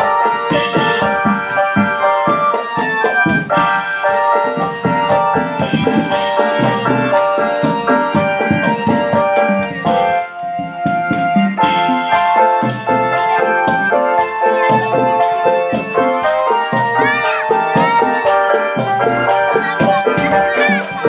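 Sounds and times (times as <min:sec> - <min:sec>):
electronic keyboard melody: 0:00.0 - 0:21.0
hand drums beat: 0:00.0 - 0:21.0.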